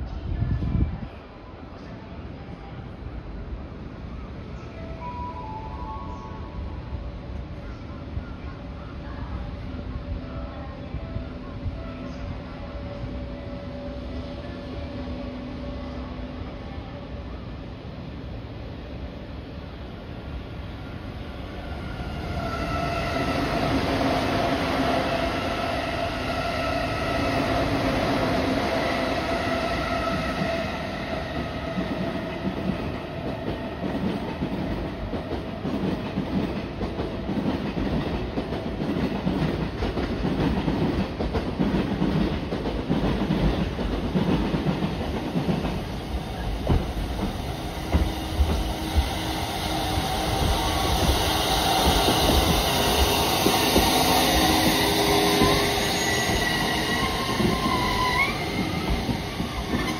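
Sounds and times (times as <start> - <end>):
train whine: 0.0 - 59.9.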